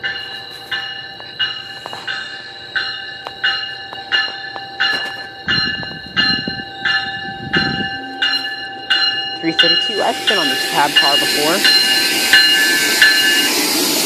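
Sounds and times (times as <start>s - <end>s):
warning bell ringing: 0.0s - 13.9s
train rumbling: 0.0s - 14.0s.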